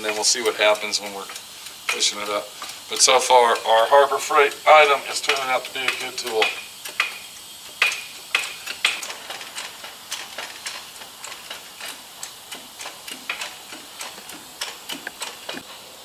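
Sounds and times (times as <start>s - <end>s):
hydraulic ram clicking: 0.0s - 15.7s.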